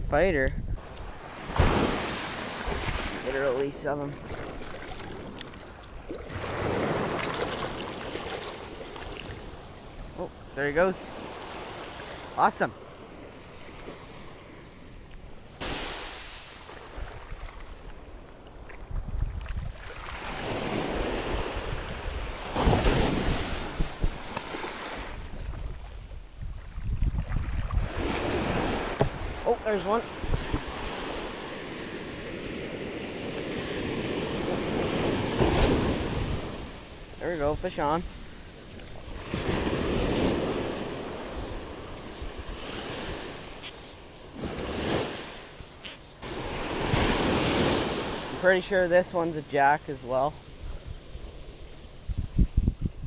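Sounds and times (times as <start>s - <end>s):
wind buffeting microphone: 0.0s - 10.2s, 11.1s - 43.7s, 50.5s - 53.0s
small waves breaking on sand: 0.8s - 52.3s.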